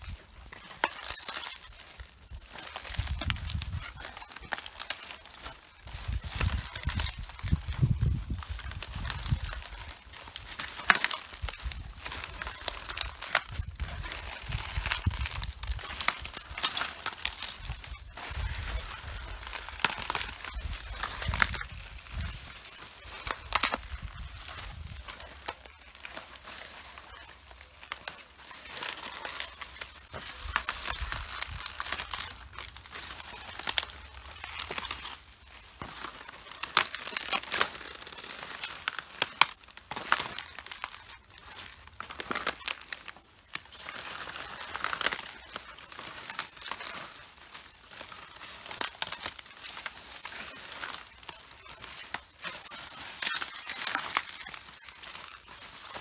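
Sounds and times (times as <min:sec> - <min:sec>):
footsteps crunching leaves: 0:00.0 - 0:56.0.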